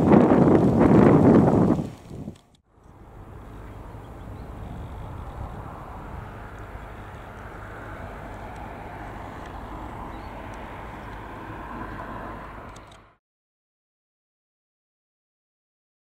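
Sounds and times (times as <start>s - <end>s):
low outdoor rumble: 0.0s - 13.2s.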